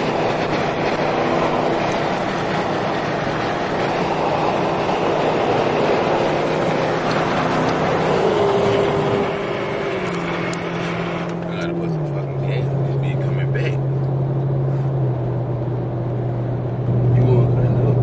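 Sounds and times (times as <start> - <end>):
car driving: 0.0 - 18.0.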